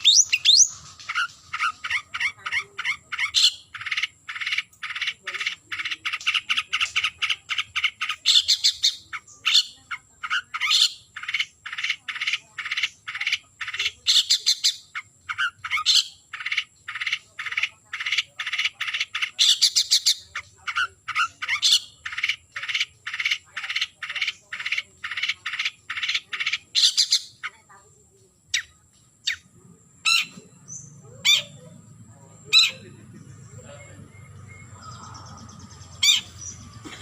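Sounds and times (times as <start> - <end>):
bird harsh chattering call: 0.0 - 27.9, 28.5 - 37.0.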